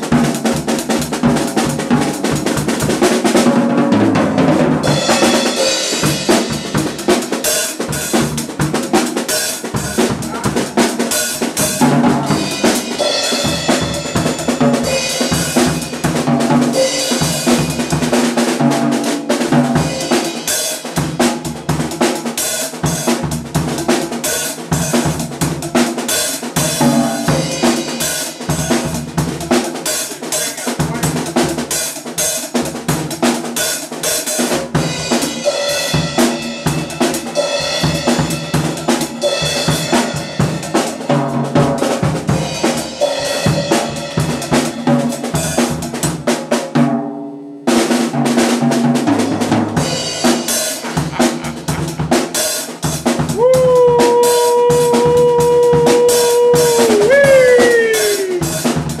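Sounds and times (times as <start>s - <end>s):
drum kit played hard: 0.0s - 59.0s.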